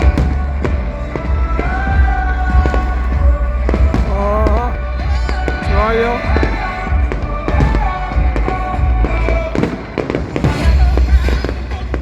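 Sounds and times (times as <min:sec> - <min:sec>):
deep firework booms: 0:00.0 - 0:12.0
fireworks bangs and crackles: 0:00.0 - 0:12.0
loud music: 0:00.0 - 0:12.0.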